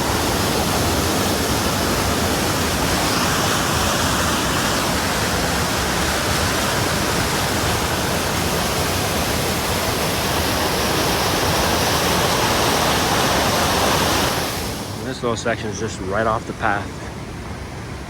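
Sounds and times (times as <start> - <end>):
mountain creek rushing: 0.0 - 18.0.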